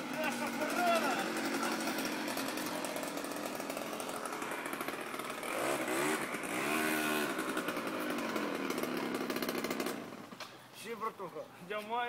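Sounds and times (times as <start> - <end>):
moped engine running: 0.0 - 10.4.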